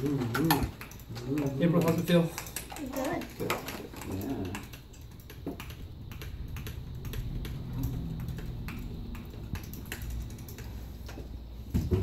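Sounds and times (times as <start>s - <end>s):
light clicks and taps: 0.3s - 11.9s.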